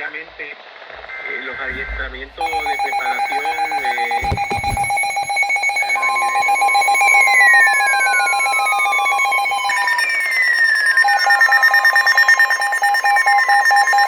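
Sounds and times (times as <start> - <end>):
steady alarm tone: 1.7 - 14.0.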